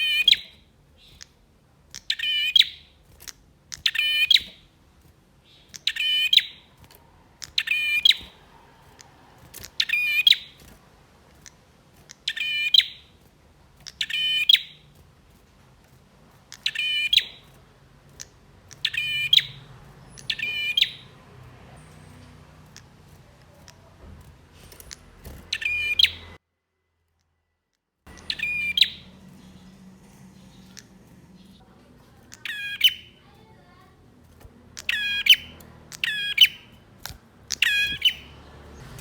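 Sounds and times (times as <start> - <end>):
bird singing buzzy trills: 0.0 - 15.4, 16.4 - 24.0, 24.6 - 26.4, 28.1 - 39.0.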